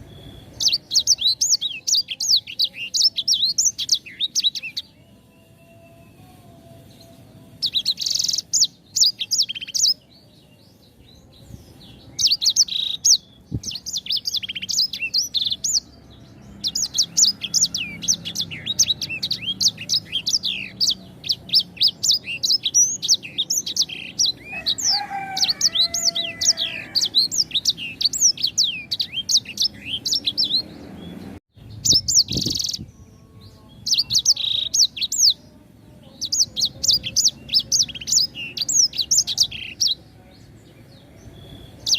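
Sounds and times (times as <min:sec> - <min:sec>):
songbird rapid high chirping: 0:00.0 - 0:06.0, 0:06.6 - 0:41.9.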